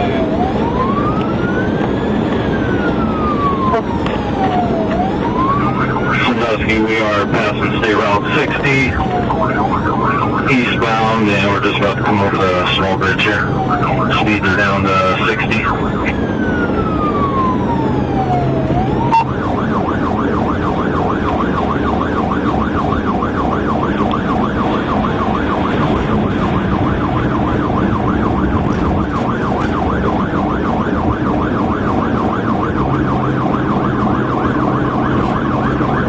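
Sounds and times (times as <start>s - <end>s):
police siren wailing and yelping: 0.0s - 36.0s
vehicle and road noise: 0.0s - 36.0s.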